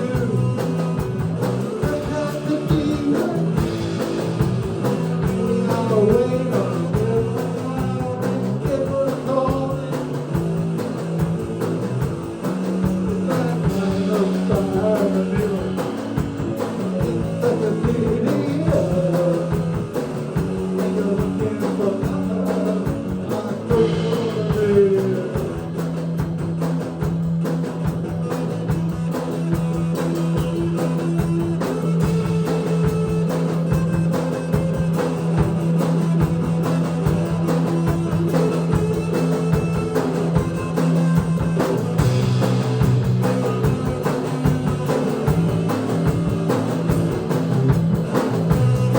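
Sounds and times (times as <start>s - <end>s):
bass guitar: 0.0s - 48.9s
drum kit: 0.0s - 48.9s
electric guitar lead line: 0.0s - 48.9s.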